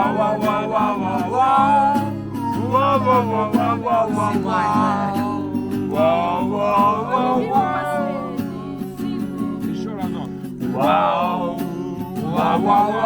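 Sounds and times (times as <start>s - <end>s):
acoustic guitar strumming: 0.0s - 13.0s
person singing wordless melody: 0.0s - 13.0s.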